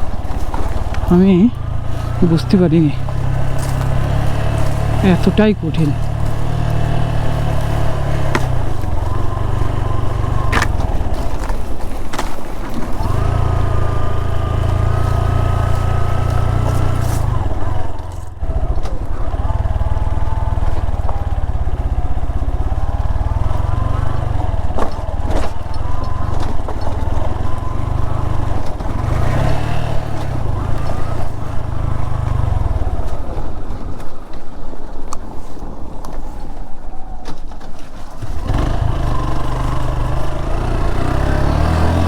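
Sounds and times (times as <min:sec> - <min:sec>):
motorcycle engine revving: 0:00.0 - 0:34.2, 0:38.2 - 0:42.0.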